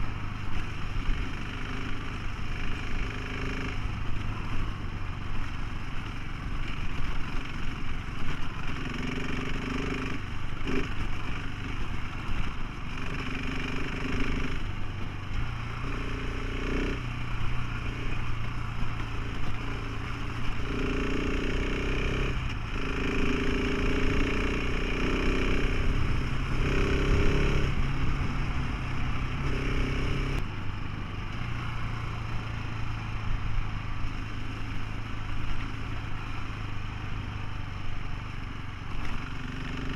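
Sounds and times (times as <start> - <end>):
motorcycle engine revving: 0.0 - 39.9
wind and road rumble: 0.0 - 39.9.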